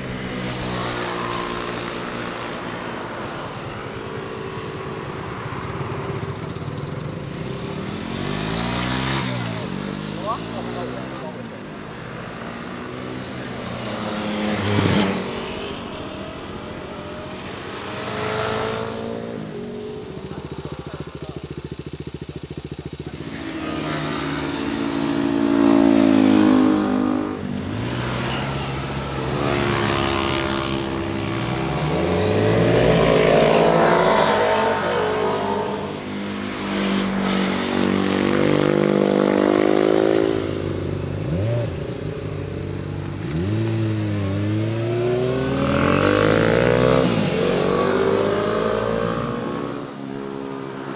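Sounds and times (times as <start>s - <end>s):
motorcycles passing and revving: 0.0s - 50.9s.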